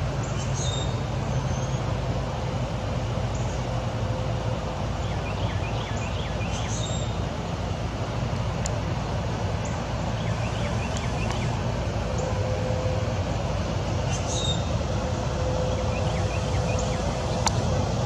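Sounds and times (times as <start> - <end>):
faint steady hum: 0.0 - 18.0
low outdoor rumble: 0.0 - 18.0.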